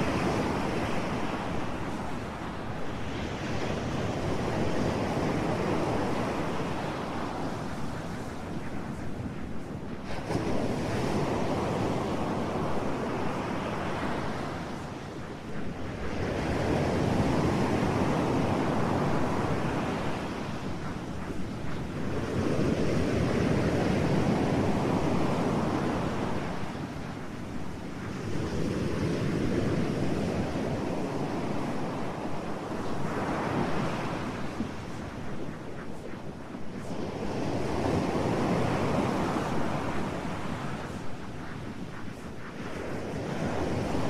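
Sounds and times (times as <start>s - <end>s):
ocean waves washing in: 0.0s - 44.0s.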